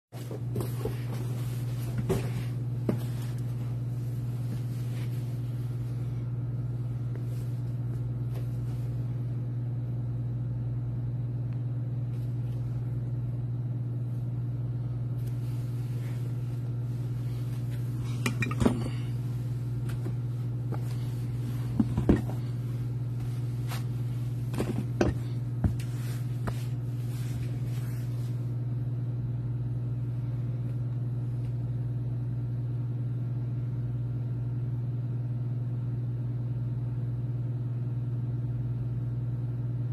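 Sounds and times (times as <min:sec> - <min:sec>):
steady low hum: 0:00.1 - 0:39.9.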